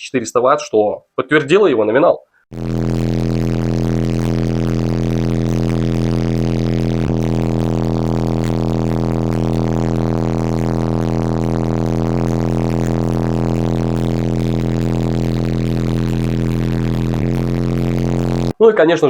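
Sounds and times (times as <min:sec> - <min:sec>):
subwoofer low bass drone: 0:02.5 - 0:18.6.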